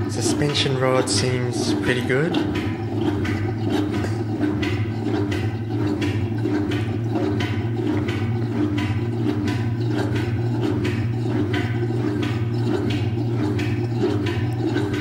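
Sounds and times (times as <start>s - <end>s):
washing machine motor hum: 0.0s - 15.0s
water swishing in pulses: 0.0s - 15.0s.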